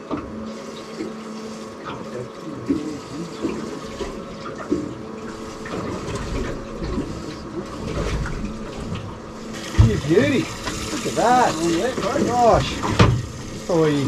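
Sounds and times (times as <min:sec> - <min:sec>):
faint steady hum: 0:00.0 - 0:14.0
water slapping boat hull: 0:00.0 - 0:14.0.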